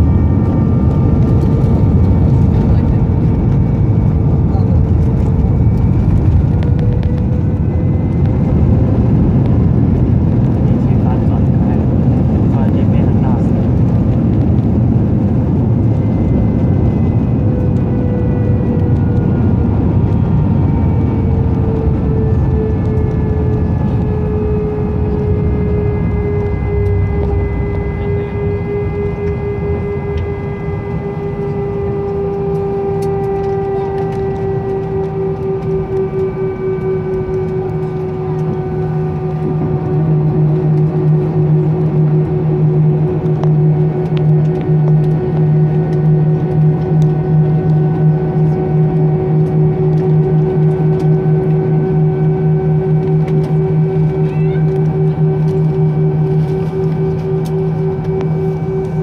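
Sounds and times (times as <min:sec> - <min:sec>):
engine whine: 0:00.0 - 0:59.0
engines and wheels rumbling: 0:00.0 - 0:59.0
low hum: 0:00.0 - 0:59.0.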